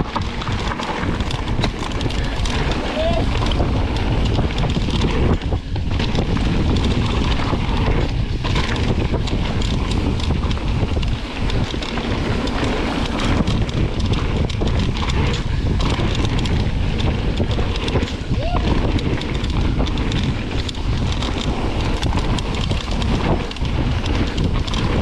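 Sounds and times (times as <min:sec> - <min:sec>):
bike rattling and knocking: 0:00.0 - 0:25.0
tyres rumbling over dirt: 0:00.0 - 0:25.0
wind buffeting microphone: 0:00.0 - 0:25.0.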